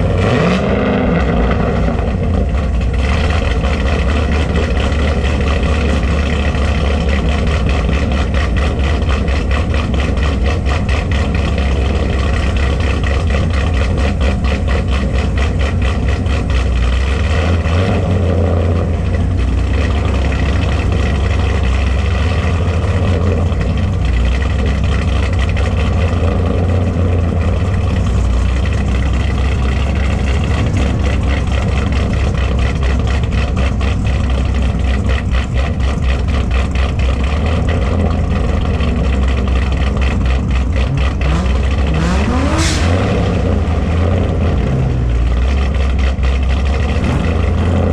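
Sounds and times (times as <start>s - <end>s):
engine rumbling steadily: 0.0s - 47.9s.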